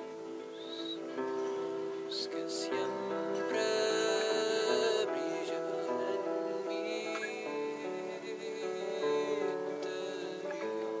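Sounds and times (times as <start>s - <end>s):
fingerstyle acoustic guitar: 0.0s - 11.0s.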